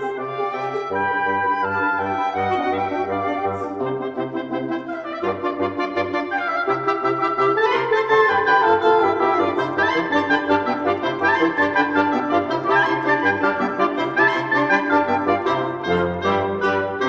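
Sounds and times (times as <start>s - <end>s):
wind instruments playing melody: 0.0s - 17.0s.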